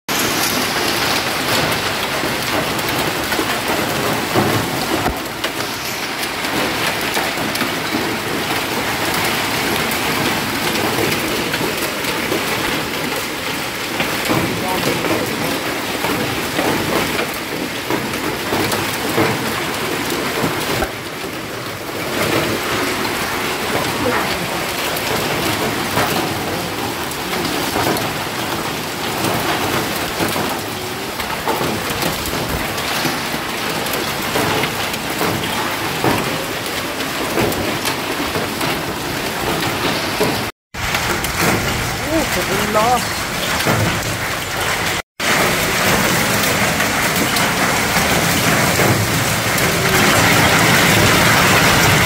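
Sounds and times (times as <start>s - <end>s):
hail and rain pattering: 0.1s - 52.0s.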